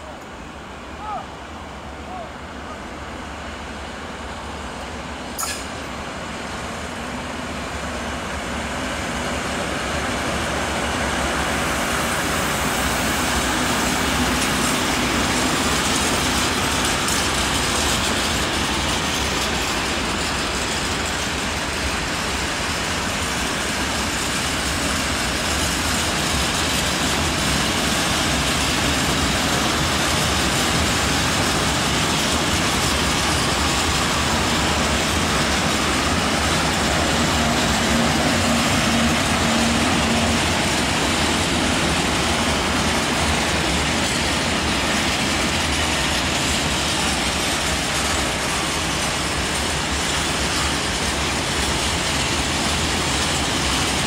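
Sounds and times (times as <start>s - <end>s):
diesel locomotive passing: 0.0s - 54.0s
train wheels clattering on rails: 3.8s - 54.0s.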